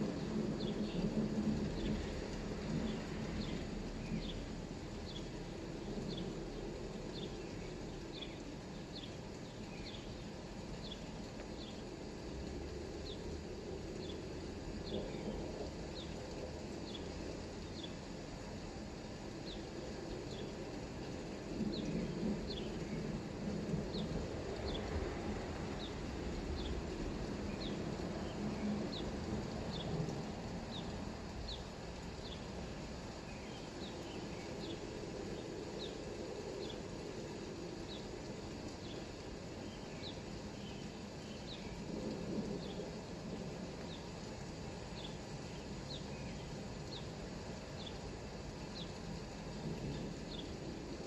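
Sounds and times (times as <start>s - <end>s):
low outdoor rumble: 0.0s - 51.0s.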